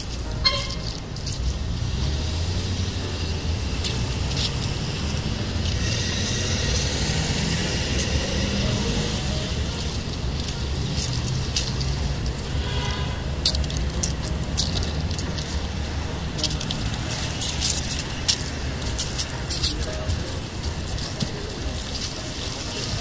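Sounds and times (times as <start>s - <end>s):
low rumble of road traffic: 0.0s - 23.0s.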